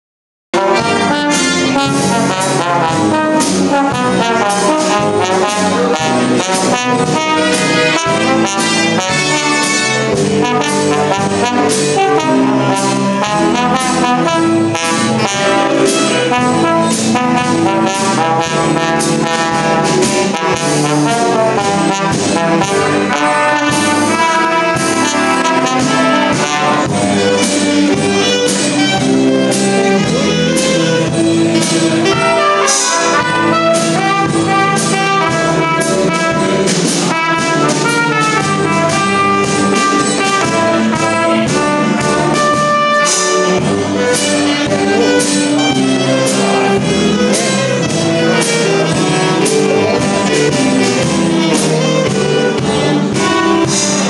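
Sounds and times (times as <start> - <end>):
jazz dance band playing: 0.6 - 54.0
trombone leading: 0.6 - 54.0.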